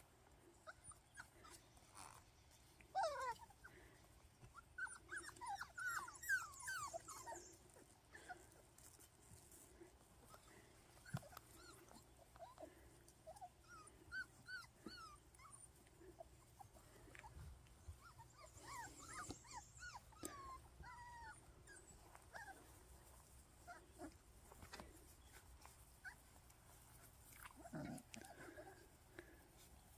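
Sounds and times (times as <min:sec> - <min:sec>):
puppies whimpering and yipping: 0:00.2 - 0:29.9.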